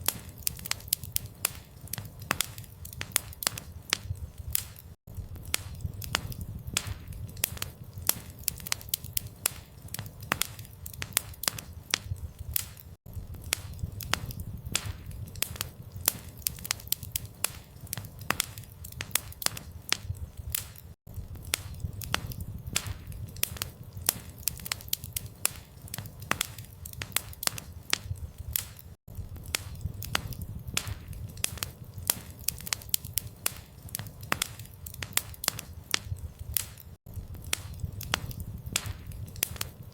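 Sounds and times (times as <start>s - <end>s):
burning wood popping and snapping: 0.0s - 39.9s
low rumble of flame: 0.0s - 39.9s.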